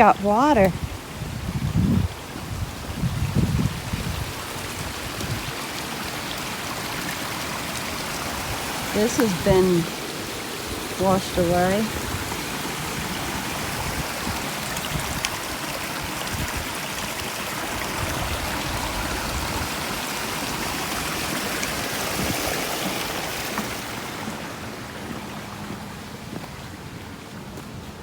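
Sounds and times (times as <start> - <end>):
water flowing in a stream: 0.0 - 28.0.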